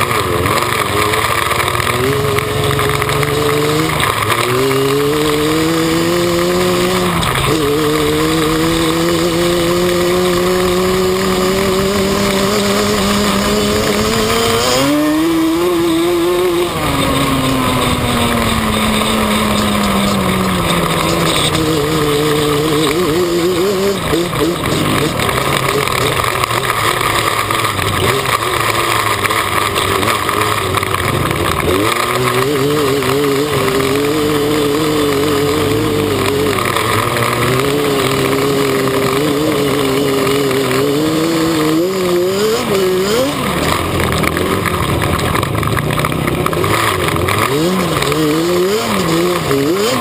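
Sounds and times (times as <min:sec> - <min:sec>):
two-stroke engine running hard: 0:00.0 - 0:50.0.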